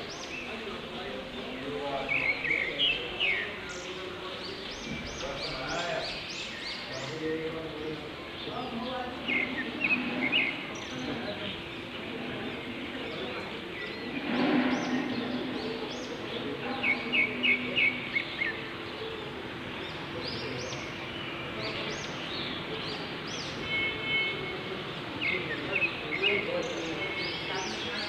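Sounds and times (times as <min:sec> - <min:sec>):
small birds chirping: 0:00.0 - 0:28.0
steady outdoor hiss: 0:00.0 - 0:28.0.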